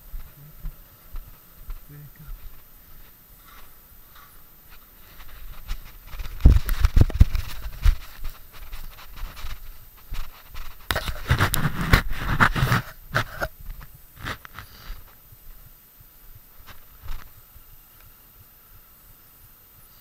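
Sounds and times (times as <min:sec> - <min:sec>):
footsteps and scuffs on roof: 0:00.0 - 0:17.6.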